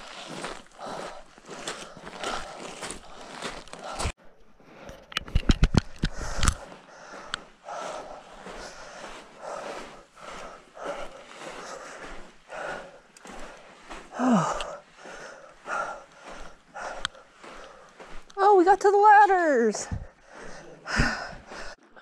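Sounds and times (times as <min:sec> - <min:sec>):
person breathing hard: 0:00.0 - 0:18.4, 0:19.9 - 0:22.0.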